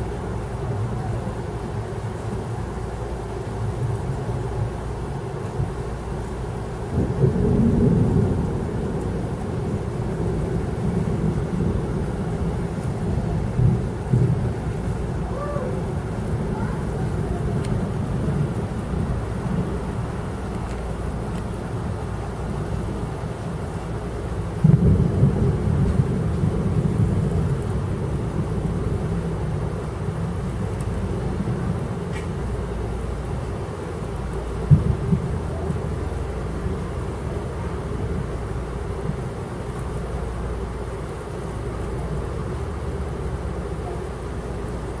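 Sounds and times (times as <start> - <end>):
thunder rumbling: 3.6 - 44.0.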